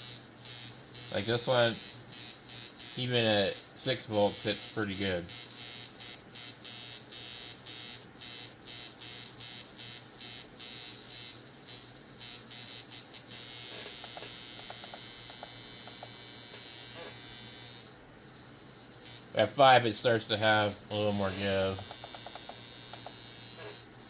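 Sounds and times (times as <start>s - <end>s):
tattoo machine buzzing: 0.0s - 24.0s.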